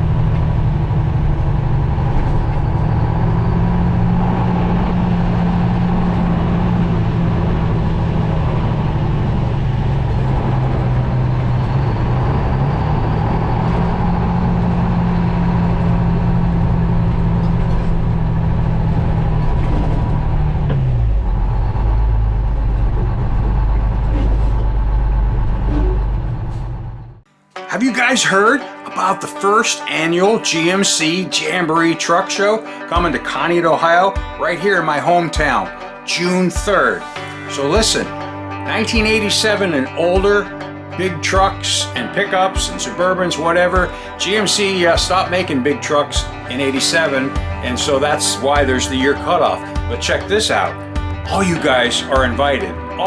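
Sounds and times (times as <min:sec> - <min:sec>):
truck diesel engine running: 0:00.0 - 0:27.3, 0:36.6 - 0:53.0.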